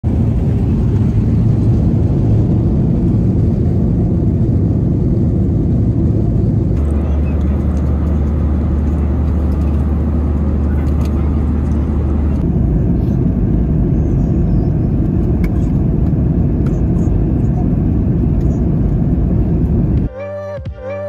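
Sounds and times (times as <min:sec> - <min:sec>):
jet cabin engine rumble: 0:00.0 - 0:20.1.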